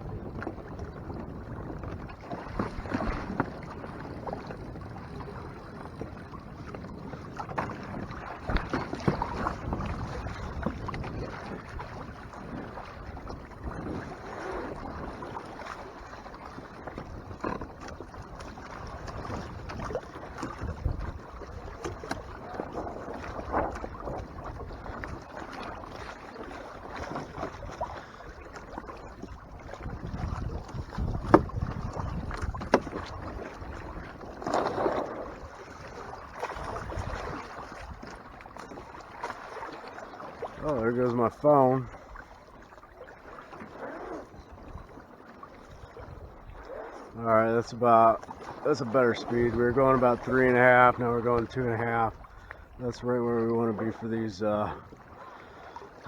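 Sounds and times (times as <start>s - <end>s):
wind buffeting microphone: 0.0s - 26.1s, 26.8s - 38.8s, 45.7s - 55.0s
water lapping against hull: 0.0s - 56.0s
water splashes: 0.3s - 56.0s.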